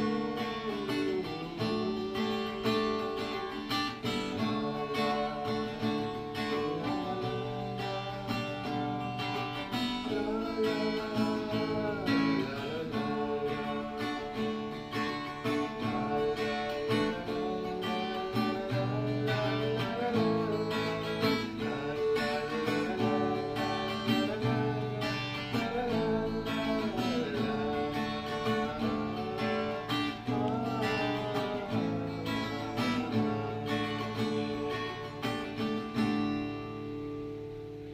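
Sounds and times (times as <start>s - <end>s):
person humming a melody: 0.0s - 36.0s
acoustic guitar strumming chords: 0.0s - 37.9s.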